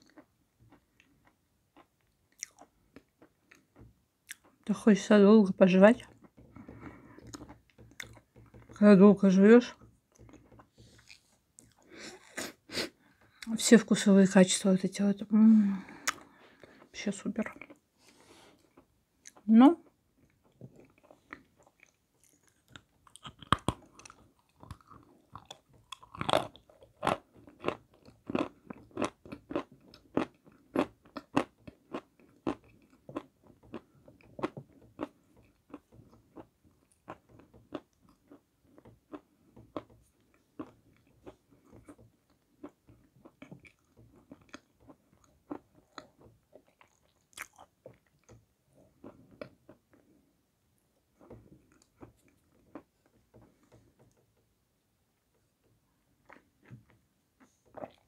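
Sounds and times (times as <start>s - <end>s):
crunching and chewing: 0.0s - 4.6s, 6.0s - 8.8s, 9.7s - 13.5s, 15.9s - 50.3s, 51.2s - 54.2s, 56.0s - 58.0s.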